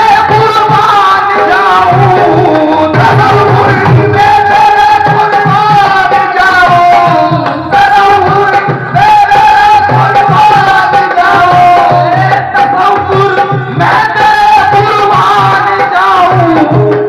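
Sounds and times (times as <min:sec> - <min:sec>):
barrel drum beating: 0:00.0 - 0:17.0
harmonium: 0:00.0 - 0:17.0.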